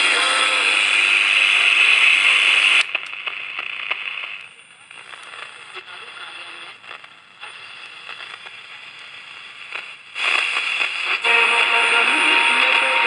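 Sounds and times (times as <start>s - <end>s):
radio static hissing and crackling: 0.0s - 13.0s.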